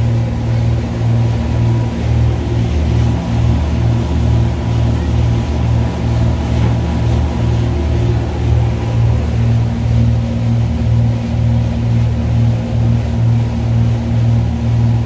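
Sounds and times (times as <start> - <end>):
boat engines droning: 0.0 - 15.0
water rushing from wake: 0.0 - 15.0.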